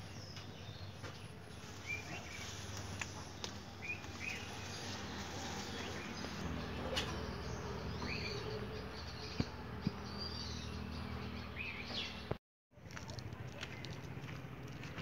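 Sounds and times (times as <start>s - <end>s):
bird chirps: 0.0s - 12.3s
outdoor background hum: 0.0s - 15.0s.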